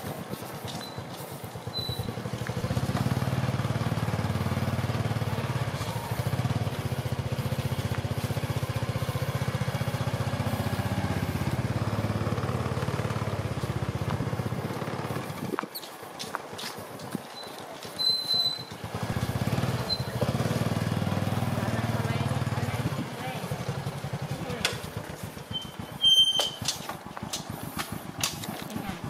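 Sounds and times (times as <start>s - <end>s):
motorbike engine idling: 0.0s - 29.0s.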